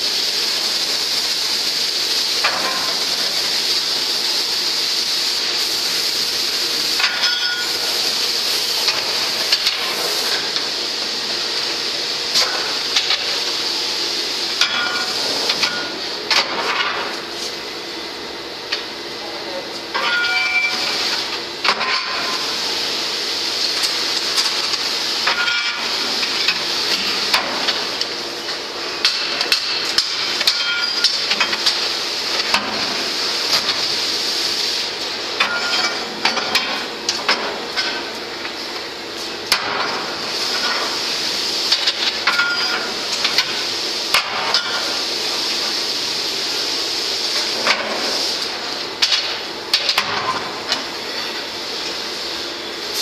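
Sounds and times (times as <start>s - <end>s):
furnace hiss: 0.0s - 53.0s.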